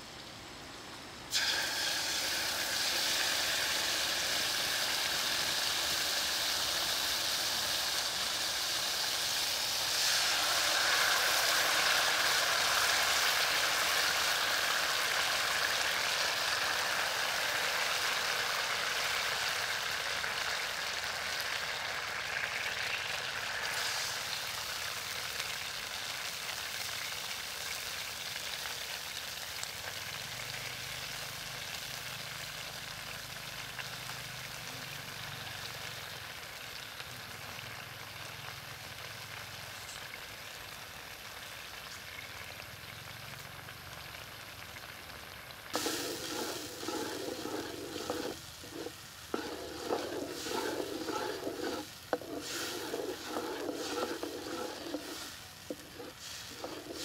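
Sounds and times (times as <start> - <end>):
sauce sizzling in hot oil: 0.2 - 57.0.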